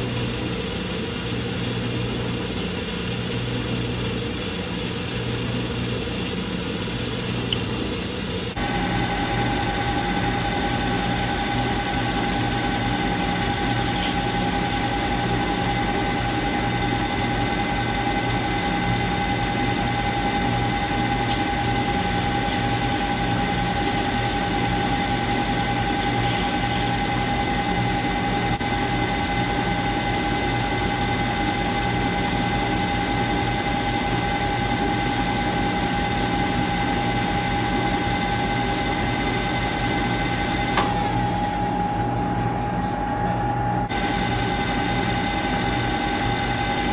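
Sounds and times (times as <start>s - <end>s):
metal lathe whine: 0.0s - 46.9s.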